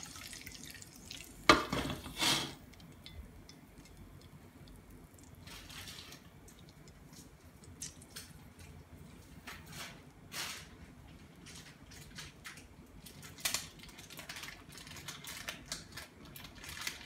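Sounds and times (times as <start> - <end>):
oil crackling in wok: 0.0 - 17.0.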